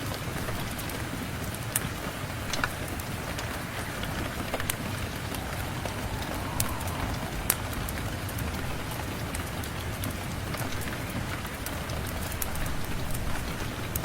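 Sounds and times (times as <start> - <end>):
steady rain falling: 0.0 - 14.0
wood fire crackling: 0.1 - 14.0.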